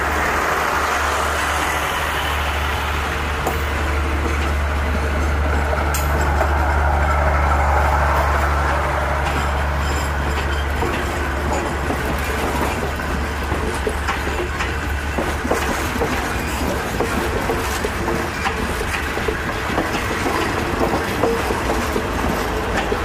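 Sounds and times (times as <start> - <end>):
train wheels clattering over rails: 0.0 - 23.0.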